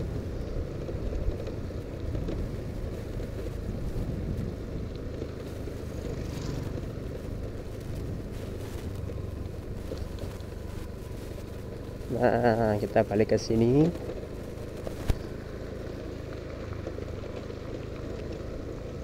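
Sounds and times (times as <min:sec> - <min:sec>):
motorcycle engine running: 0:00.0 - 0:19.0
motorcycle passing: 0:00.0 - 0:19.0
wind rumbling on microphone: 0:00.0 - 0:19.0.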